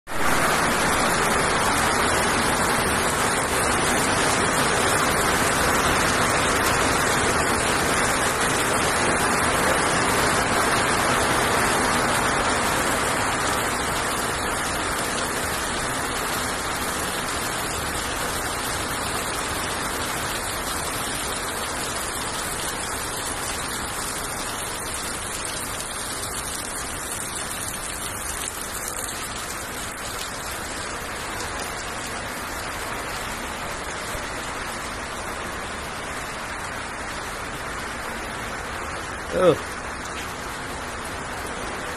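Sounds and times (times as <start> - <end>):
rain falling on grass: 0.1 - 41.9.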